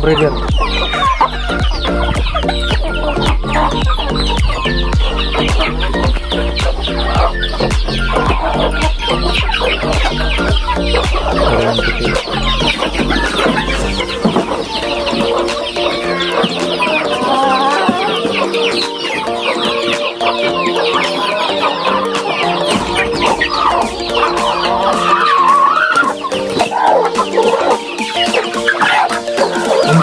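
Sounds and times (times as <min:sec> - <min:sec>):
background music: 0:00.0 - 0:30.0
chickens clucking: 0:00.0 - 0:30.0.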